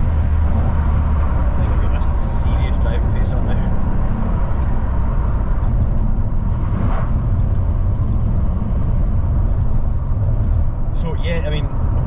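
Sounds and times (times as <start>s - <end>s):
car exhaust drone: 0.0s - 12.0s
road and wind noise: 0.0s - 12.0s.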